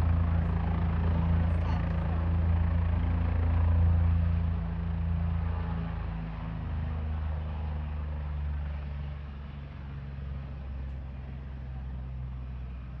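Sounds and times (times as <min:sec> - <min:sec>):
helicopter running: 0:00.0 - 0:13.0.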